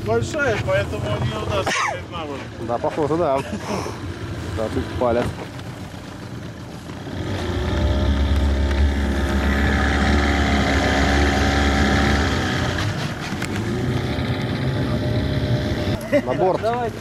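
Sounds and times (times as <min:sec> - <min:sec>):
small outboard motor running: 0:00.1 - 0:17.0.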